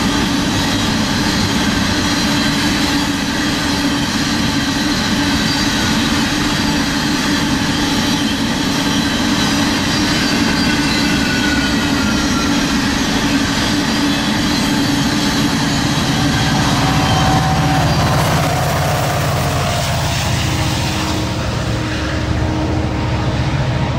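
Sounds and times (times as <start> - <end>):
freight train wheels rumbling on rail: 0.0 - 23.9
faint high wheel squeal: 0.4 - 22.8.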